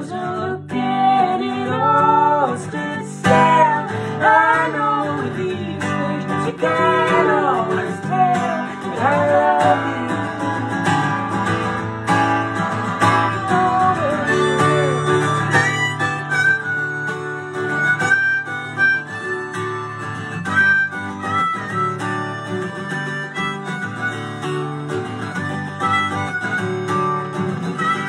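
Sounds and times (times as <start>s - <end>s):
acoustic guitar strumming: 0.0s - 28.0s
harmonica melody: 1.1s - 28.0s.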